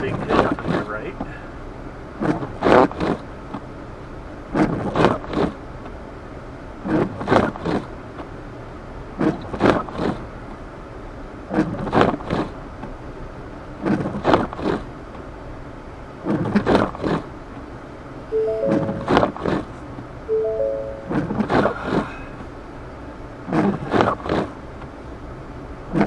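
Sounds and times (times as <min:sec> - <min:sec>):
in-cab road and engine noise: 0:00.0 - 0:18.3, 0:18.9 - 0:26.0.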